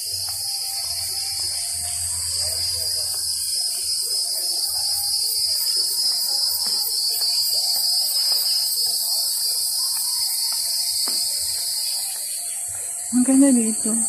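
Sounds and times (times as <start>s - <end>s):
insects shrilling: 0.0s - 14.0s.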